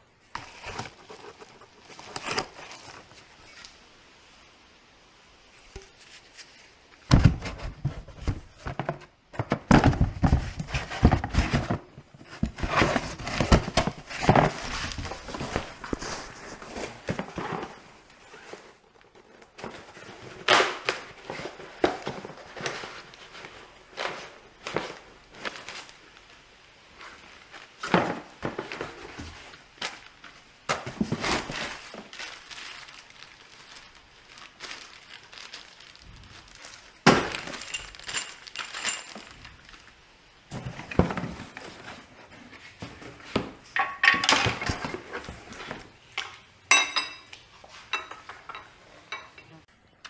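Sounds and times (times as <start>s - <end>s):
cardboard packaging rustling: 0.1s - 3.9s, 5.5s - 43.7s.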